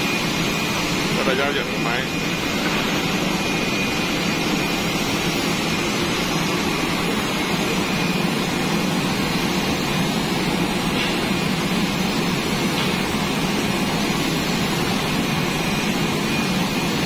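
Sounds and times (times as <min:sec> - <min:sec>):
spray booth air rushing: 0:00.0 - 0:17.0.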